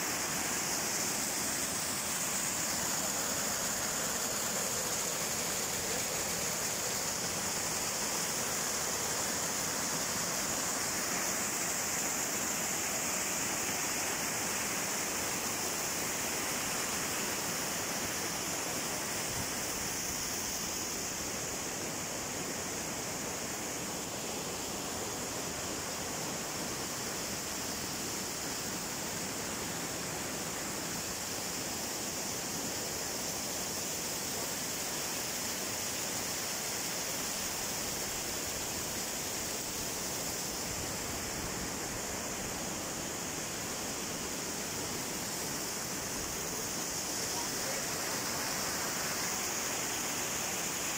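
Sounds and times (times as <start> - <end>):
rushing falling water: 0.0 - 50.9.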